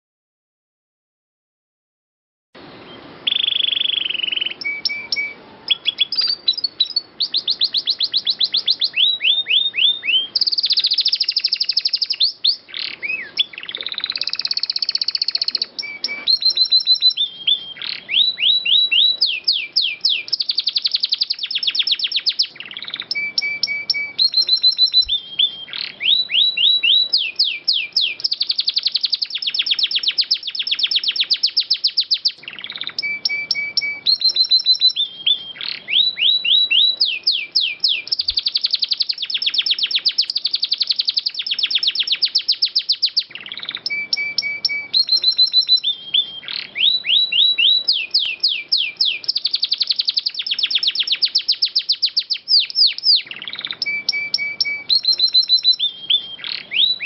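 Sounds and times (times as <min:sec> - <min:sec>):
canary singing trills: 0:02.6 - 0:57.0.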